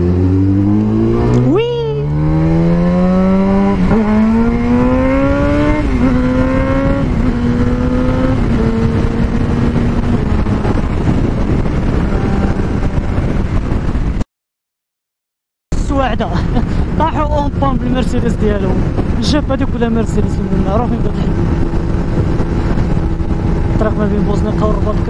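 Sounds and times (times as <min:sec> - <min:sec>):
motorcycle engine accelerating: 0:00.0 - 0:14.2, 0:16.4 - 0:25.0
wind rushing on microphone: 0:00.0 - 0:14.2, 0:15.8 - 0:25.0.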